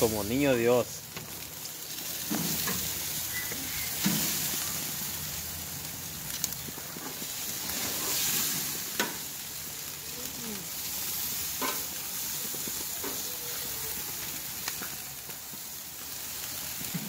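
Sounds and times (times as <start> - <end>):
fish and bacon sizzling on grill: 0.0 - 17.0.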